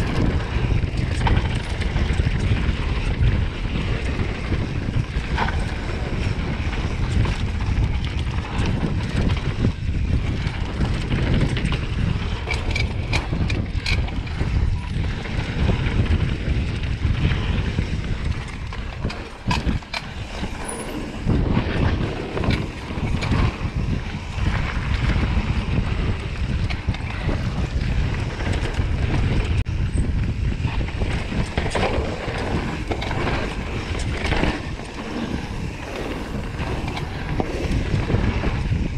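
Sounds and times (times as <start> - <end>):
tyres rolling over dirt: 0.0 - 29.7, 30.4 - 38.9
bike clicks and knocks: 0.0 - 38.9
wind buffeting microphone: 0.0 - 38.9.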